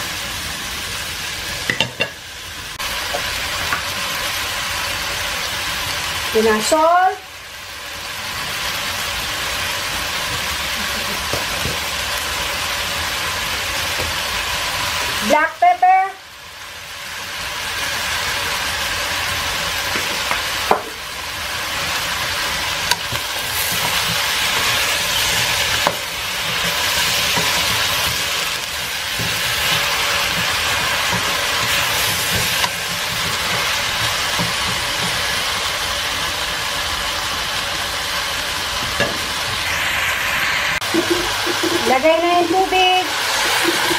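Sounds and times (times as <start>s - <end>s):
vegetables sizzling in a pot: 0.0s - 43.9s.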